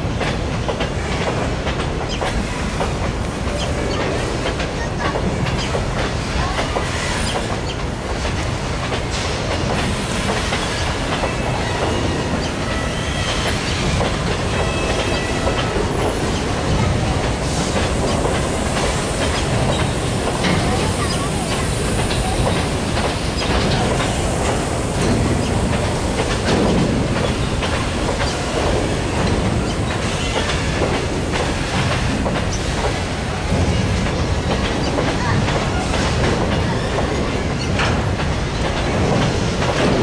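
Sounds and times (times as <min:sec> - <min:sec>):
train wheels clattering over rail joints: 0:00.0 - 0:40.0.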